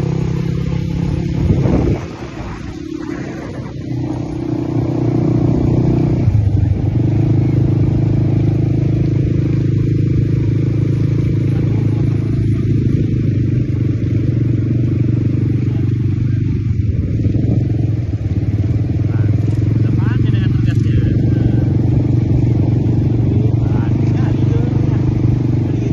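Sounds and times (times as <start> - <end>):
atv engine running: 0.0 - 25.9.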